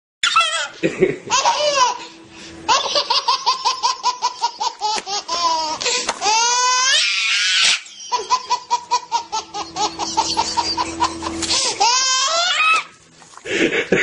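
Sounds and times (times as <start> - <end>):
high-pitched laughter: 0.2 - 2.0, 2.7 - 12.9.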